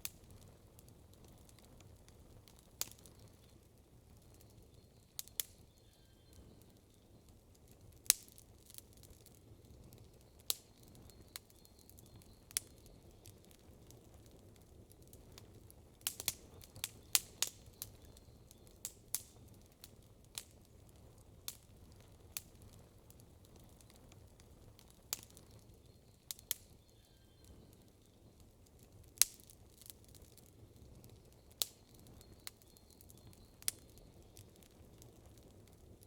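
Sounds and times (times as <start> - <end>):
campfire crackling and popping: 0.0 - 36.0
low hiss of burning: 0.0 - 36.0.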